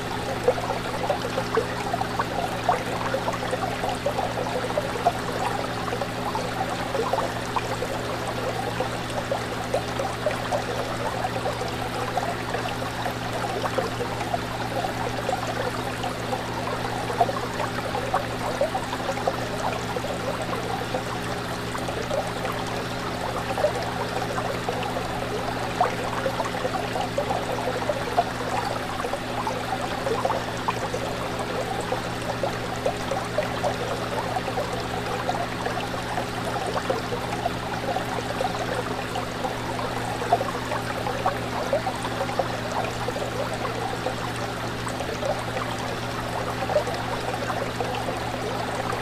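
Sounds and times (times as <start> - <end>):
constant low hum: 0.0 - 49.0
fish tank water trickling and bubbling: 0.0 - 49.0.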